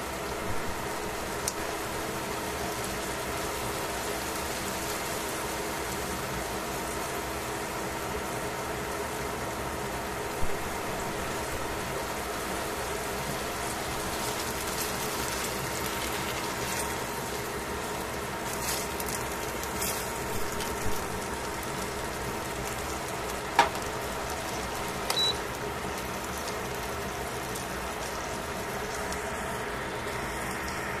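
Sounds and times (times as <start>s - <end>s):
chicken sizzling in pan: 0.0s - 31.0s.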